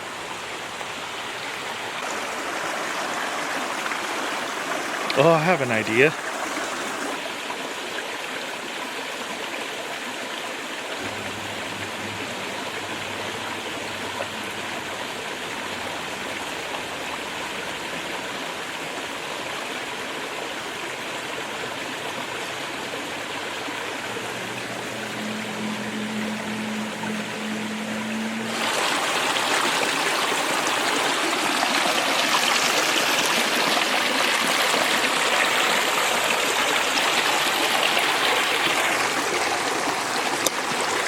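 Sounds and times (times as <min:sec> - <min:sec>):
small stream trickling: 0:00.0 - 0:41.0.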